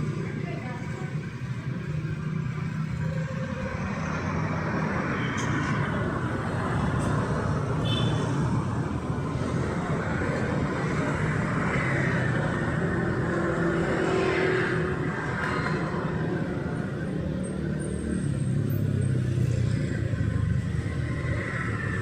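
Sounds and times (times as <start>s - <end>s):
street traffic passing: 0.0s - 22.0s.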